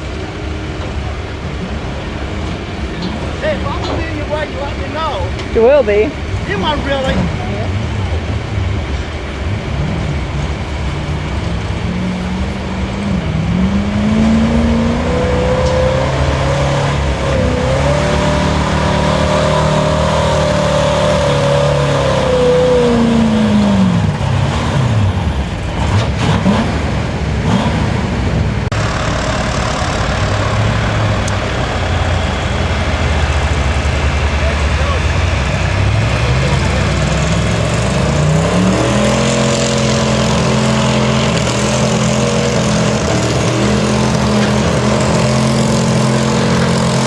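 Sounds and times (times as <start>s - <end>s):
truck engine at full throttle: 0.0s - 47.0s.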